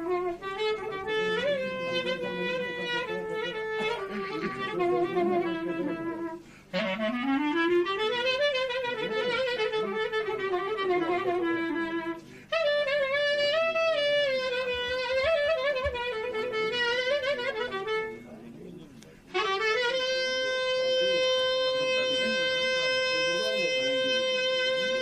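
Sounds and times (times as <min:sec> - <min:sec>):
solo clarinet improvisation: 0:00.0 - 0:18.5, 0:19.3 - 0:25.0.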